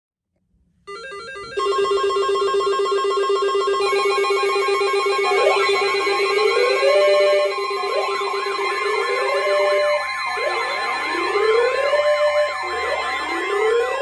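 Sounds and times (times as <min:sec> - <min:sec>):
warbling emergency alert tone: 0:00.9 - 0:14.0.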